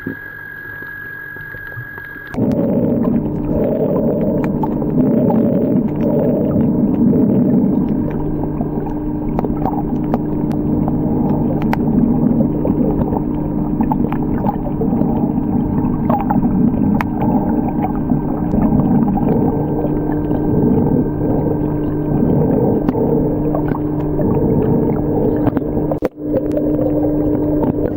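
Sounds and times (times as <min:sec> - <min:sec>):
constant hums: 0:00.0 - 0:27.9
low underwater drone: 0:00.0 - 0:27.9.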